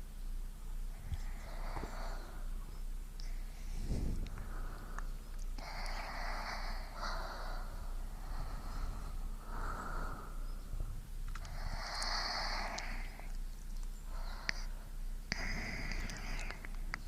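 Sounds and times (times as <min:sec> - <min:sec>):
faint low hum: 0:00.0 - 0:17.0
person breathing slowly: 0:00.9 - 0:17.0.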